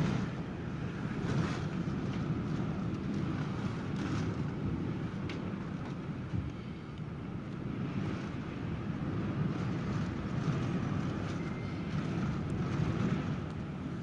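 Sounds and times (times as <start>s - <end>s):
storm wind and water rushing: 0.0s - 14.0s
wind buffeting microphone: 0.0s - 14.0s.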